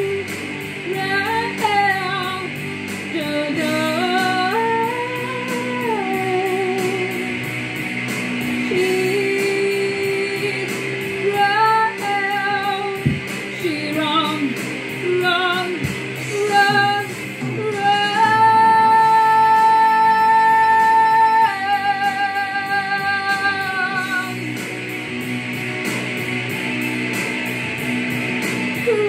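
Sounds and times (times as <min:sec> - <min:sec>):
woman singing into a microphone: 0:00.0 - 0:07.5, 0:08.6 - 0:24.4, 0:28.8 - 0:29.0
backing track with guitar and beat: 0:00.0 - 0:29.0.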